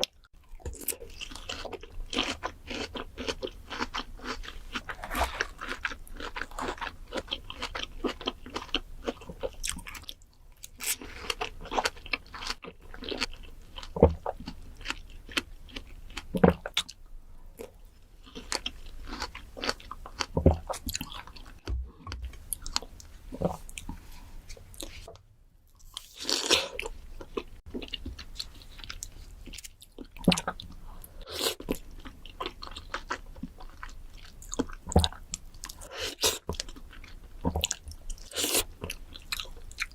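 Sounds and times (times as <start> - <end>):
crunchy chewing of crisp fruit: 0.0 - 39.9.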